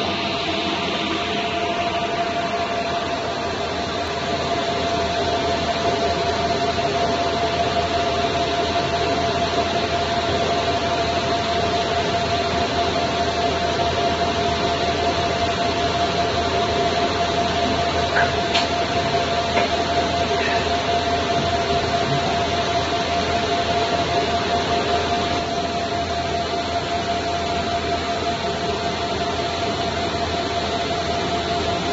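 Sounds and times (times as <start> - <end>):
laser marking machine running: 0.0 - 31.9.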